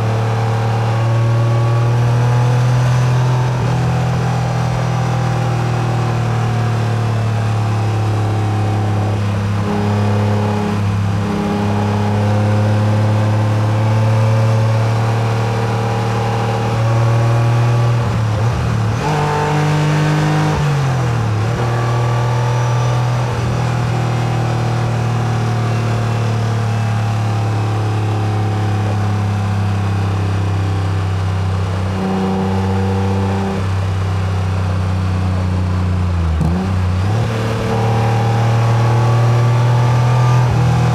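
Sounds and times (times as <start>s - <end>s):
car engine pulling: 0.0s - 40.9s
road noise: 0.0s - 40.9s.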